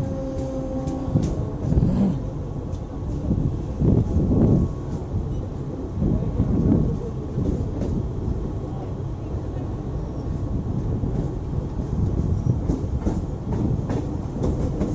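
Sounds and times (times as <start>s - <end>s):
train wheels rumbling on rails: 0.0s - 14.9s.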